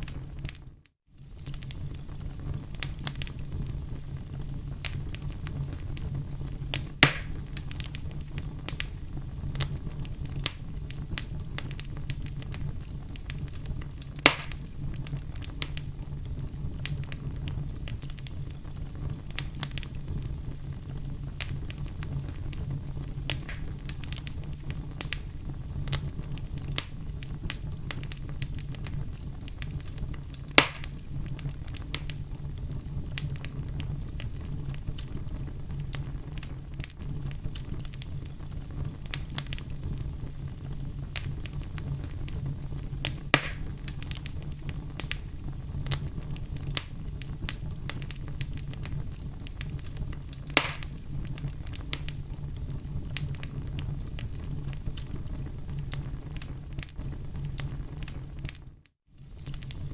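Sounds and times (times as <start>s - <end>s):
sharp fire pops: 0.0s - 59.9s
wood fire crackling: 0.0s - 59.9s.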